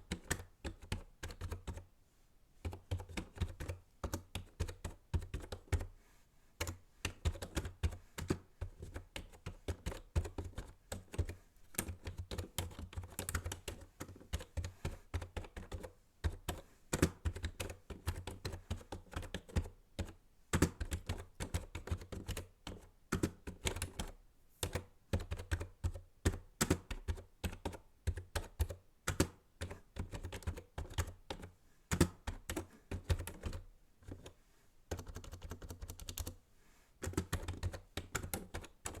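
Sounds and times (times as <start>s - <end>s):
typing on computer keyboard: 0.0s - 1.8s, 2.6s - 5.9s, 6.6s - 36.4s, 37.0s - 39.0s.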